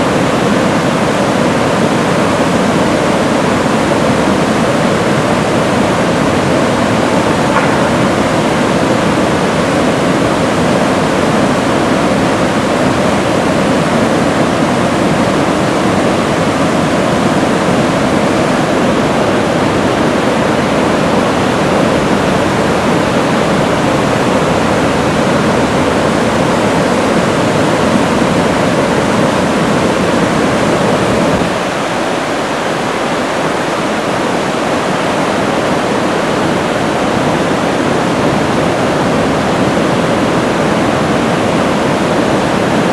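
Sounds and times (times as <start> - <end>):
whitewater rapid roaring: 0.0 - 42.9.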